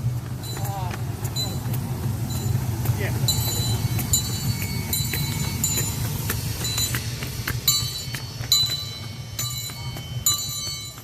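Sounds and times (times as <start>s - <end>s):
train cars rumbling on rails: 0.0s - 11.0s.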